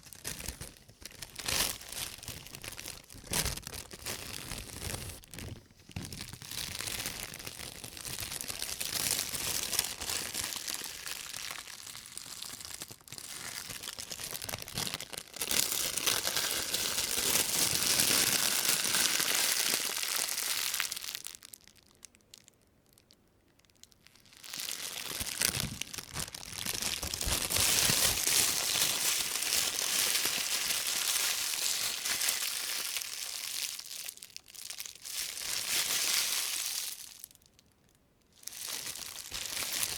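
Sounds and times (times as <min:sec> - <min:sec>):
plastic bag crinkling: 0:00.0 - 0:23.1, 0:23.7 - 0:37.6, 0:38.4 - 0:39.9.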